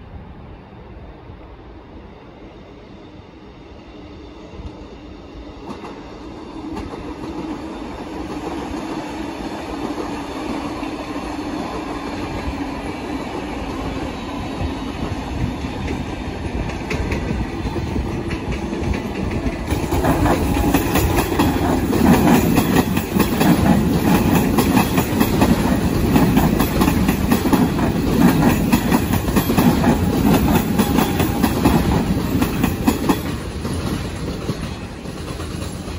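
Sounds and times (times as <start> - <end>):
train wheels rattling on track: 2.9 - 35.9.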